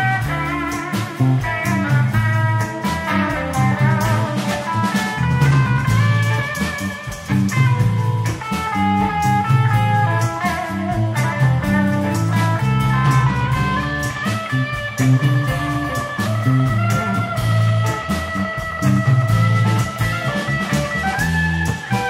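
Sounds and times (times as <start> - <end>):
bass: 0.0 - 22.0
drum kit steady beat: 0.0 - 22.0
electric guitar lines: 0.0 - 22.0.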